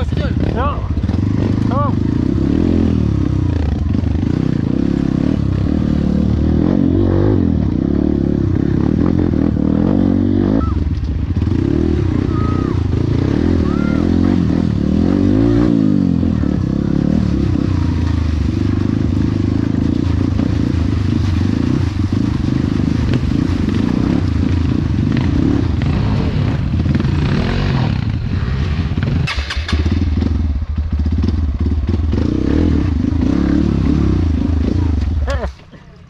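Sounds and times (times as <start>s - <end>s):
motorcycle engine revving: 0.0s - 35.5s.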